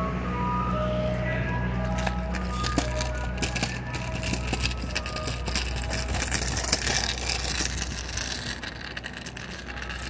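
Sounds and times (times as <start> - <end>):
low hum: 0.0 - 10.0
scooter wheels rolling on concrete: 0.6 - 10.0.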